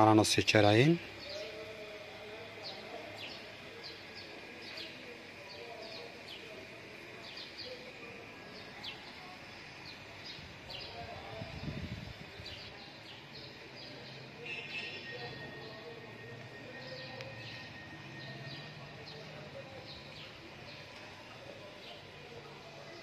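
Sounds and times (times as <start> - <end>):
low background noise: 0.0 - 23.0
small birds chirping: 0.0 - 23.0.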